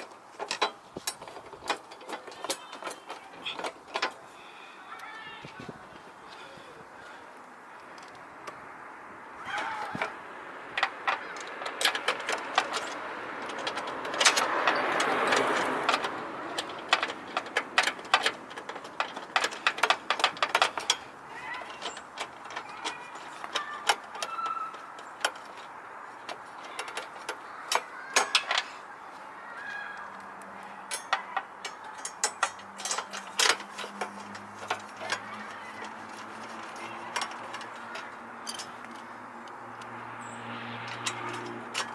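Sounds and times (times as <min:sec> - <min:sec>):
clicks and knocks of car parts: 0:00.0 - 0:04.3, 0:09.5 - 0:28.8, 0:29.6 - 0:41.9
rustling: 0:00.0 - 0:08.3, 0:09.4 - 0:41.9.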